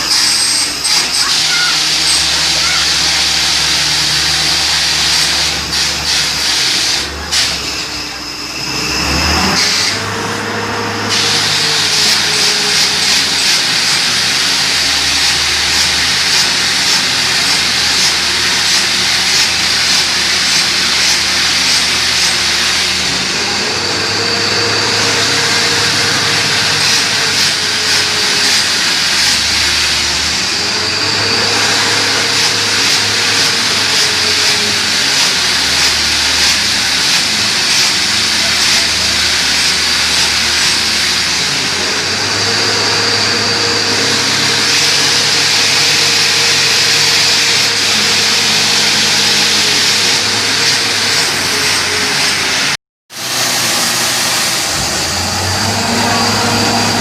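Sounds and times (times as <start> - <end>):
loud hiss: 0.0 - 10.0, 10.9 - 57.0
drilling rig engine drone: 0.0 - 57.0.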